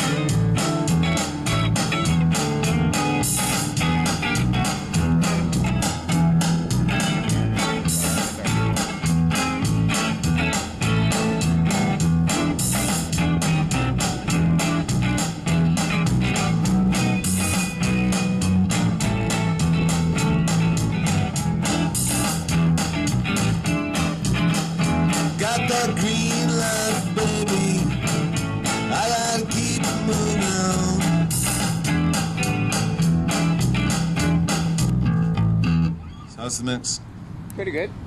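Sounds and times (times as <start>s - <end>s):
drums with steady beat: 0.0s - 35.0s
electric guitar: 0.0s - 36.2s
driving bass line: 0.0s - 36.5s.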